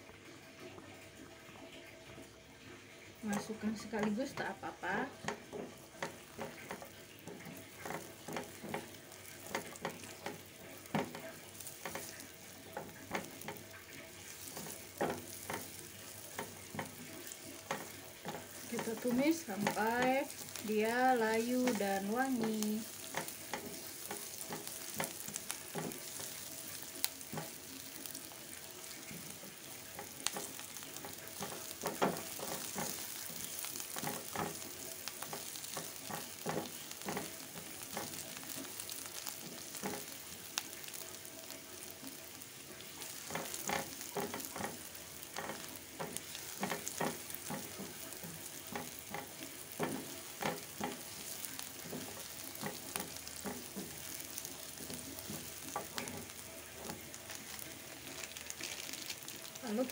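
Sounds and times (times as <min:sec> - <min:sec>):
vegetables sizzling in oil: 0:00.0 - 0:59.9
spatula scraping and tapping pan: 0:03.2 - 0:42.2, 0:42.8 - 0:59.6.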